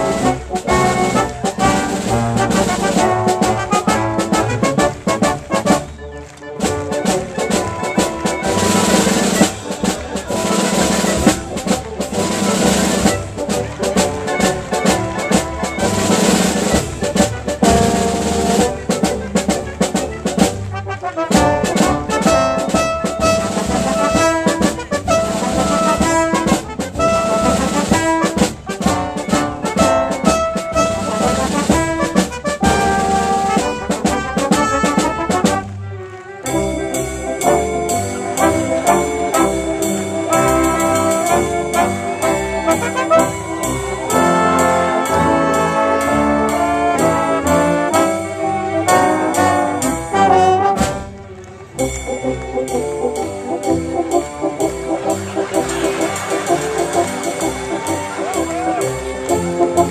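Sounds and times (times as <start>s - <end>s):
drums: 0.0s - 35.8s, 36.4s - 59.9s
brass: 0.0s - 59.9s
symphony orchestra playing: 0.0s - 59.9s.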